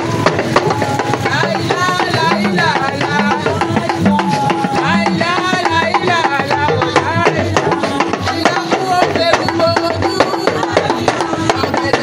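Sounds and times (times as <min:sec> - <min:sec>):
lively drum music: 0:00.0 - 0:12.0
low pitch-bending drum: 0:00.0 - 0:12.0
voices singing: 0:00.0 - 0:12.0.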